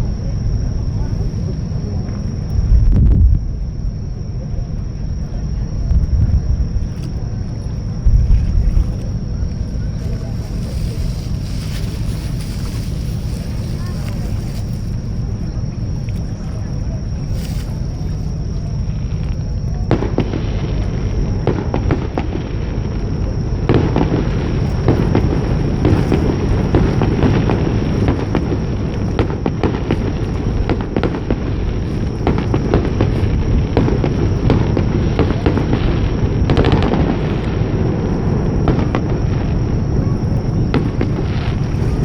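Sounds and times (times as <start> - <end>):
fireworks booming and crackling: 0.0 - 42.0
low rumble: 0.0 - 42.0.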